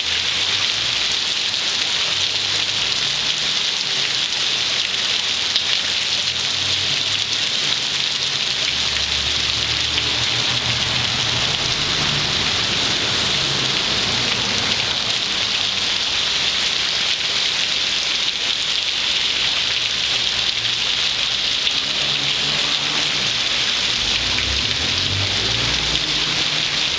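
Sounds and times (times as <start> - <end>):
heavy rain on street: 0.0 - 26.9.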